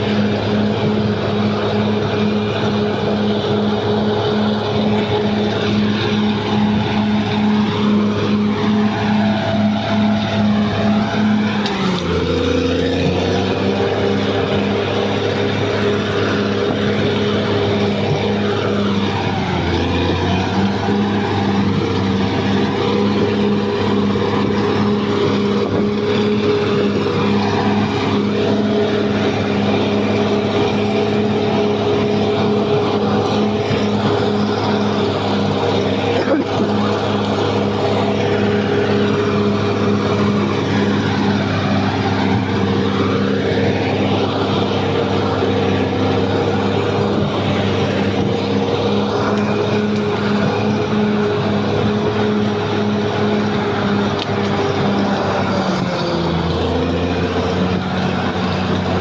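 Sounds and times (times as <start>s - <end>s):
bulldozer running under load: 0.0s - 59.0s.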